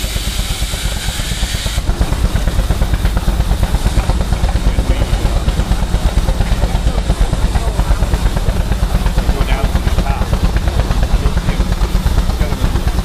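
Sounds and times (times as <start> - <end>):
old engines thudding: 0.0 - 13.0
steam hissing: 0.0 - 13.0.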